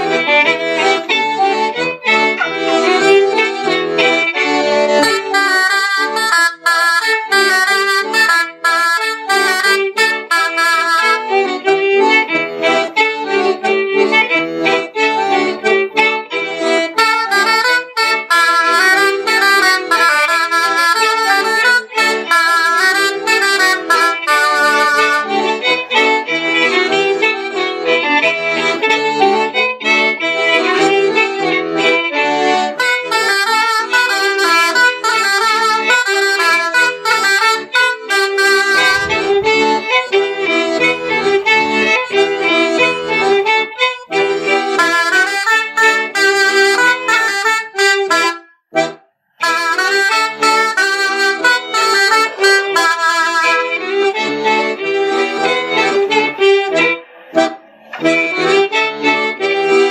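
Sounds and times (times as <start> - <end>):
accordion: 0.0 - 59.9
fiddle: 0.0 - 59.9
folk dance tune: 0.0 - 59.9
wooden flute: 0.0 - 59.9.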